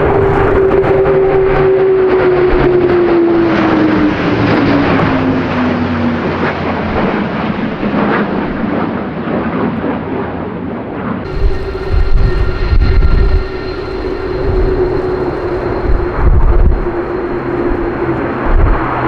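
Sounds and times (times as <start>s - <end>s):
military aircraft engine roar: 0.0s - 19.0s.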